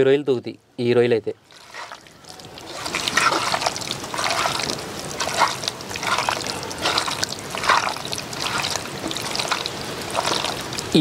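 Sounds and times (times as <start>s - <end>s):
hand squelching prawns in paste: 1.5s - 11.0s.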